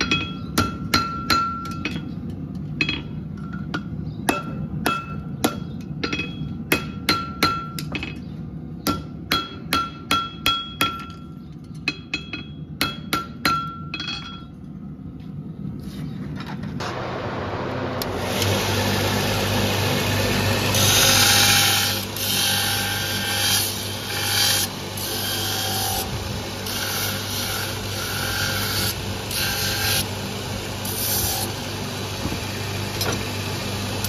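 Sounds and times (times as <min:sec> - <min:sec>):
low steady hum: 0:00.0 - 0:33.8.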